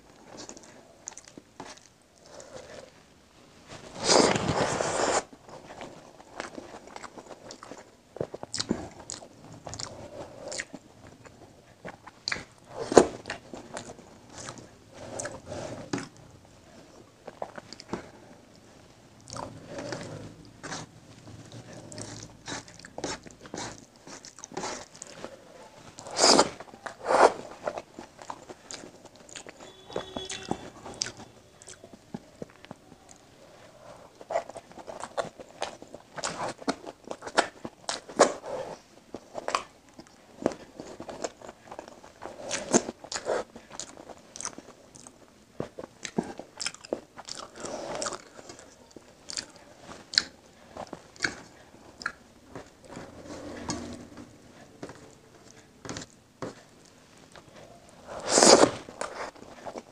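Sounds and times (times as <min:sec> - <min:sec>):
person chewing with wet smacks: 0:00.2 - 0:02.7, 0:05.7 - 0:59.9.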